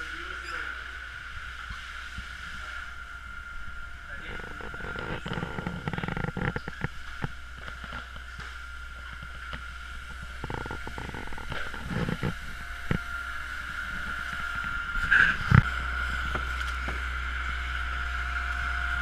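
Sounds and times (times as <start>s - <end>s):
brooms swishing water: 0.0s - 18.9s
low hum: 0.0s - 19.0s.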